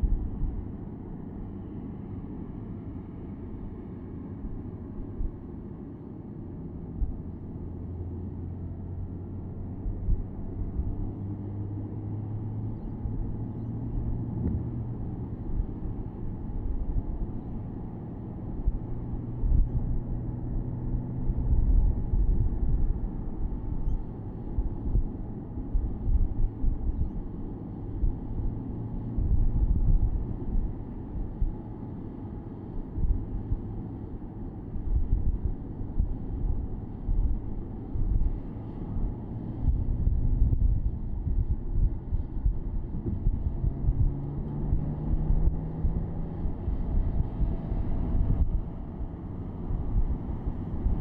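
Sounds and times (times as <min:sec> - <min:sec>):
road and wind noise: 0:00.0 - 0:51.0
car engine droning: 0:07.0 - 0:51.0.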